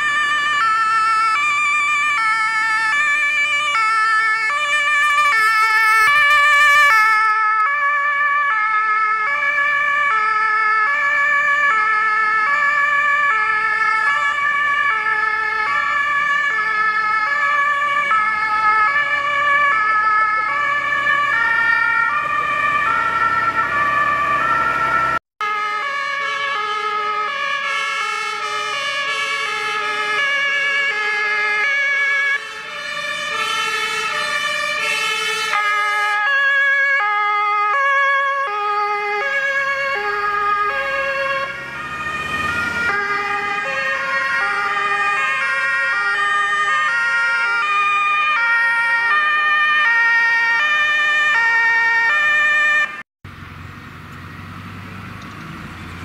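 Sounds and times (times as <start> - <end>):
two-tone sirens passing: 0.0 - 56.0.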